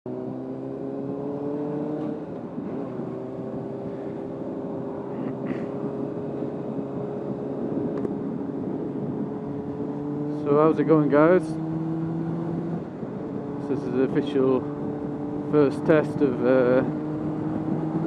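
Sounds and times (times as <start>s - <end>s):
motorcycle engine running: 0.1s - 18.0s.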